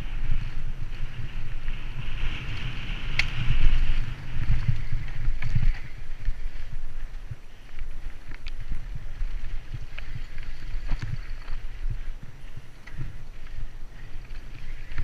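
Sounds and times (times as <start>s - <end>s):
bike rattling: 0.0s - 15.0s
wind on microphone: 0.0s - 15.0s.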